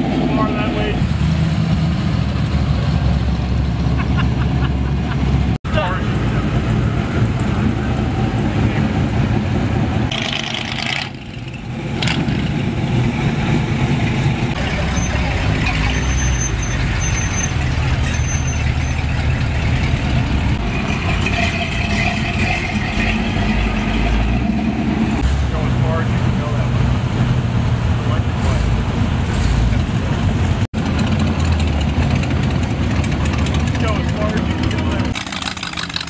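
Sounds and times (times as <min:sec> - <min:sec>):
pickup truck engines rumbling: 0:00.0 - 0:36.0.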